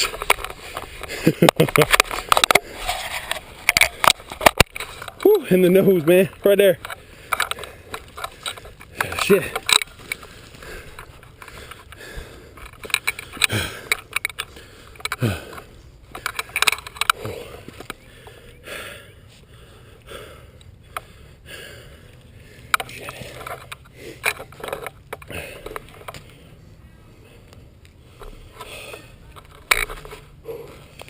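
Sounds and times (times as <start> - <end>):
rifle and gear clicking and rattling: 0.0 - 18.4, 22.6 - 26.4, 28.1 - 31.0.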